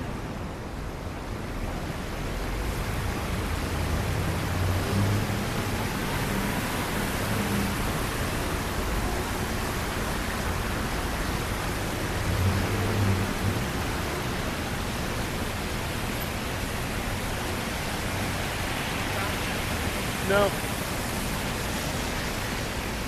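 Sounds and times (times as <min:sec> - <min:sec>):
rain hissing on street: 0:00.0 - 0:23.0
traffic: 0:00.0 - 0:23.0.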